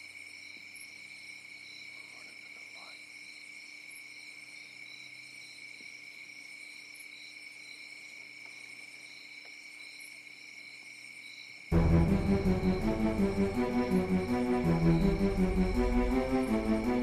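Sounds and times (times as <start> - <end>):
crickets trilling: 0.0 - 17.0
insect pulsing call: 0.0 - 17.0.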